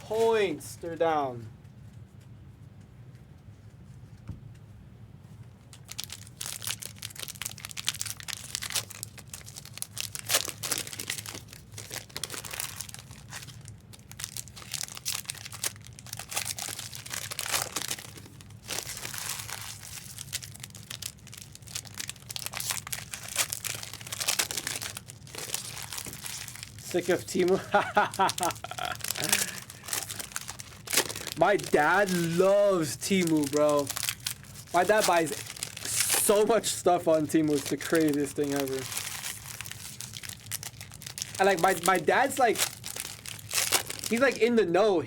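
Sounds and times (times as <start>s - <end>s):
wrappers crinkling and tearing: 5.6s - 44.8s.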